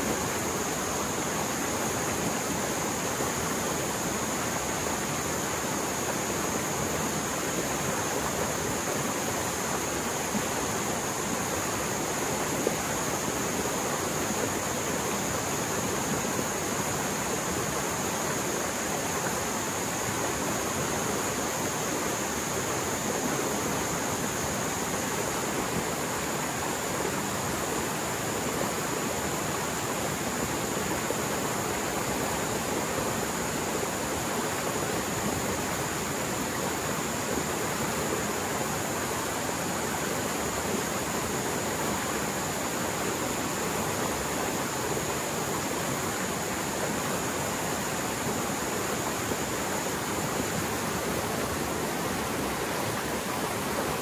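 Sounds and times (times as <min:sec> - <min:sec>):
stream water roaring: 0:00.0 - 0:54.0.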